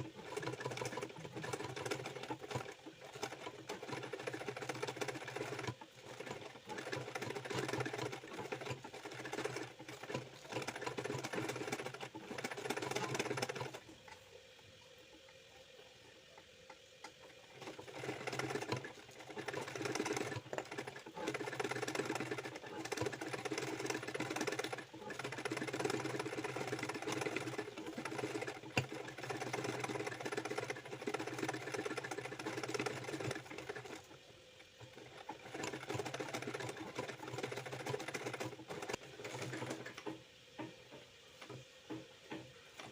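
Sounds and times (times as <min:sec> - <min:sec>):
sewing machine stitching: 0:00.0 - 0:14.0, 0:17.5 - 0:34.2, 0:34.8 - 0:40.2.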